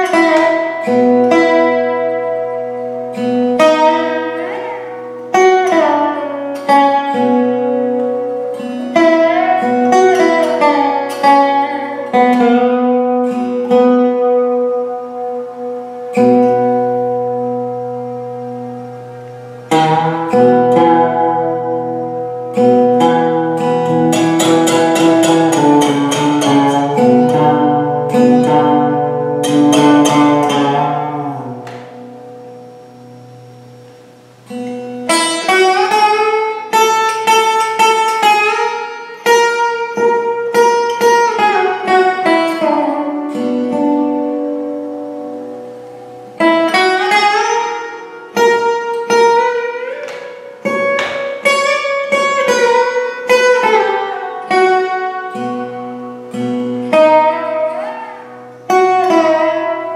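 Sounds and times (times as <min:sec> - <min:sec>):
plucked string melody: 0:00.0 - 0:59.9.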